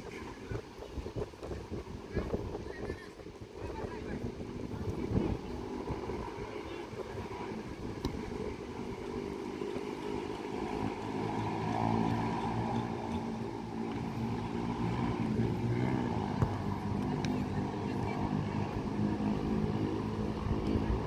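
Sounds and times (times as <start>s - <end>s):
engine running: 4.0s - 21.0s.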